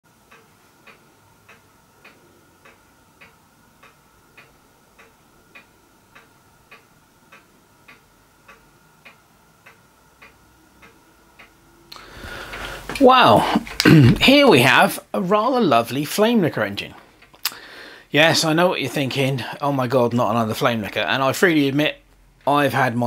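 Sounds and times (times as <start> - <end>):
faint ticking: 0.1 - 22.9
faint steady whine: 0.1 - 23.0.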